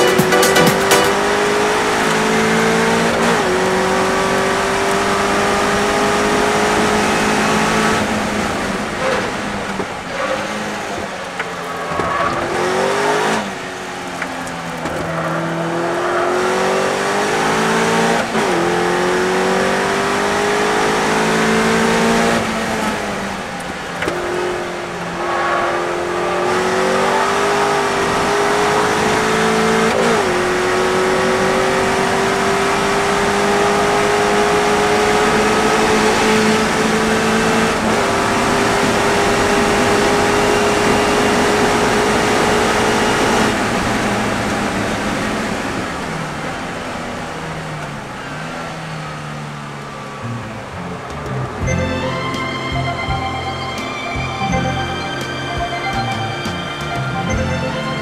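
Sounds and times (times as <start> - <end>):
race car engine revving: 0.0 - 52.1.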